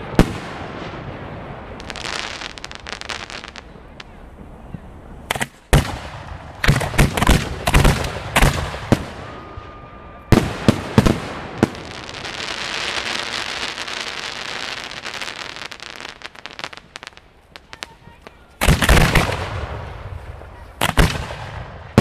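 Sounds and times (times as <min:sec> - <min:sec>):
fireworks bangs: 0:00.0 - 0:22.0
fireworks crackle: 0:00.0 - 0:22.0.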